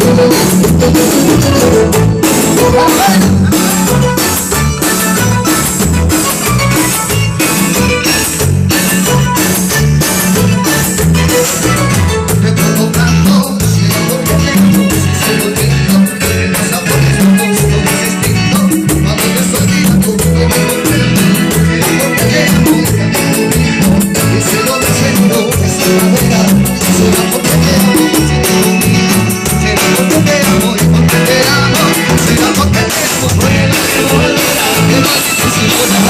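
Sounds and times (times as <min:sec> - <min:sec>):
latin dance music: 0:00.0 - 0:36.0.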